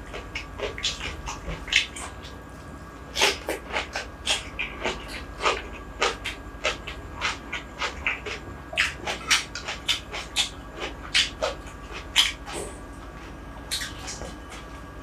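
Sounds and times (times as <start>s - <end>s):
wet chewing and lip smacking: 0.1s - 2.4s, 3.1s - 14.9s.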